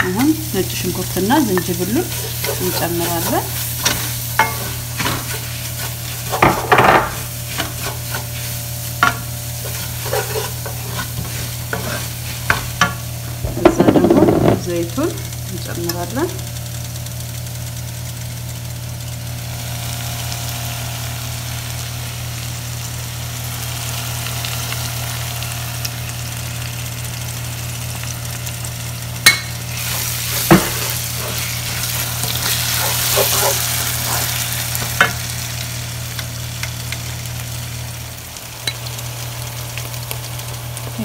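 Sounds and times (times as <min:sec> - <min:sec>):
onions sizzling in a frying pan: 0:00.0 - 0:41.0.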